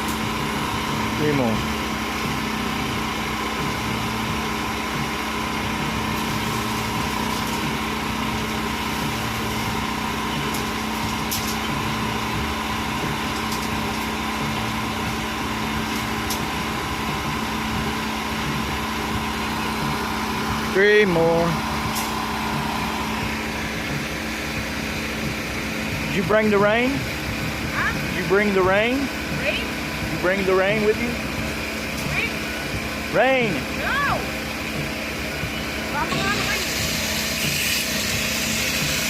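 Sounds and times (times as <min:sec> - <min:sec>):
small engine droning: 0:00.0 - 0:39.0.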